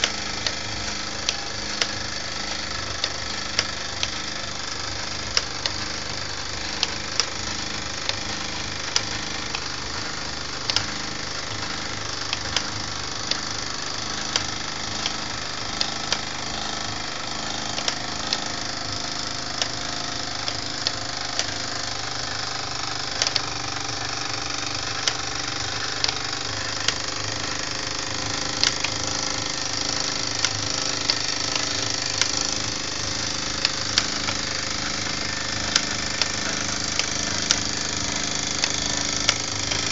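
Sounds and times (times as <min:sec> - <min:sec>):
mechanical whirr of turning pulleys: 0:00.0 - 0:39.9
sharp mechanical click: 0:00.0 - 0:39.9.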